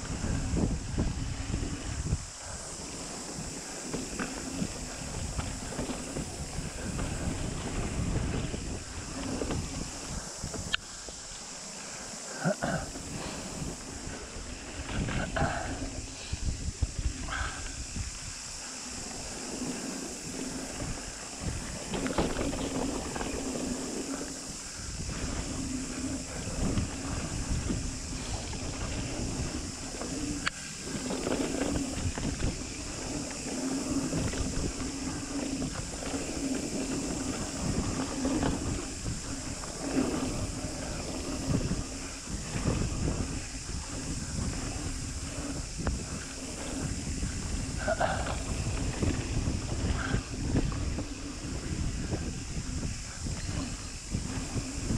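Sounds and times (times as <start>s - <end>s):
bike rattles and knocks: 0.0s - 11.2s, 19.2s - 54.9s
bike tyres rumbling over dirt: 0.0s - 54.9s
buzzing hum: 0.0s - 54.9s
wind on microphone: 0.0s - 54.9s.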